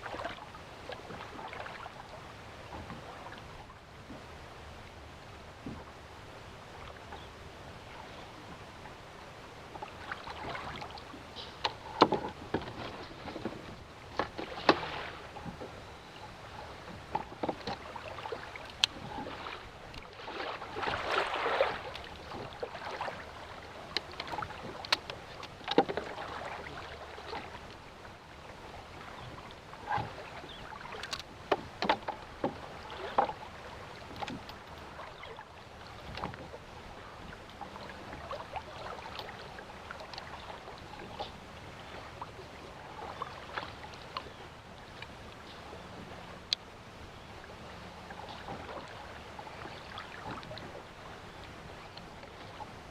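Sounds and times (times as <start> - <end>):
water lapping and splashing: 0.0 - 52.9.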